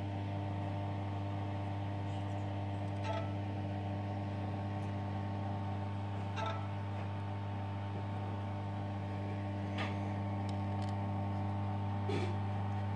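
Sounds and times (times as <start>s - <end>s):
aquarium pump humming: 0.0s - 12.9s.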